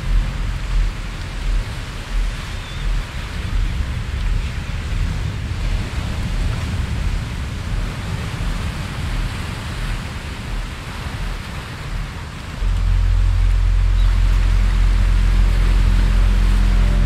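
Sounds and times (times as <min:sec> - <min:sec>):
deep low drone: 0:00.0 - 0:17.0
ocean surf rushing: 0:00.0 - 0:17.0.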